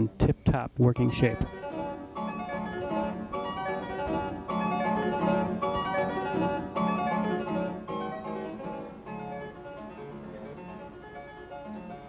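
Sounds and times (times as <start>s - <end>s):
instrumental keyboard music: 0.8s - 12.0s.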